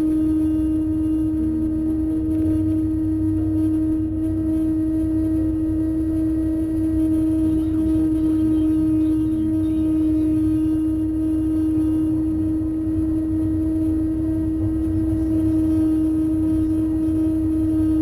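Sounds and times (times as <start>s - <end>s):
low rumble of engine and road: 0.0s - 18.0s
steady droning tone in truck cab: 0.0s - 18.0s.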